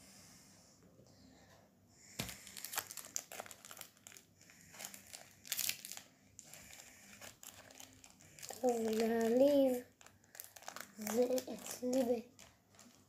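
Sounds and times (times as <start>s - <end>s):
foil packet crinkling: 2.2s - 13.0s.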